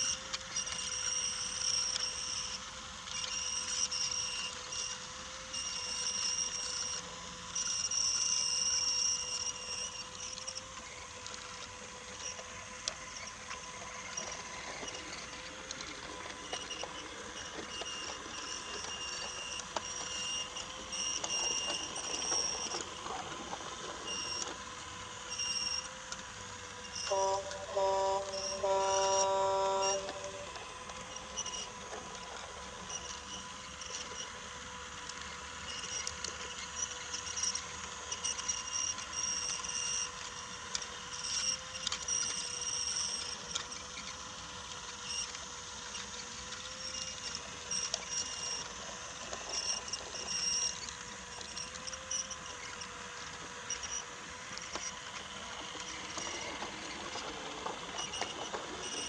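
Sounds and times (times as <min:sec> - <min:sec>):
toy train motor whining: 0:00.0 - 0:59.0
wheels clicking on wooden rails: 0:07.8 - 0:59.0.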